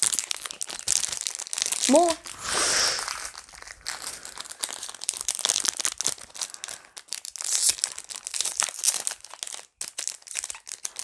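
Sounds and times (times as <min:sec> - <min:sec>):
foil card pack crinkling and tearing: 0:00.0 - 0:11.0.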